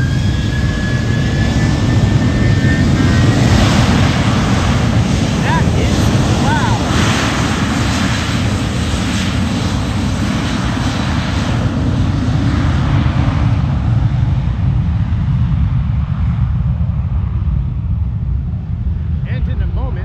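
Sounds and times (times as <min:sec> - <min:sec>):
jet engines at takeoff thrust: 0:00.0 - 0:20.0.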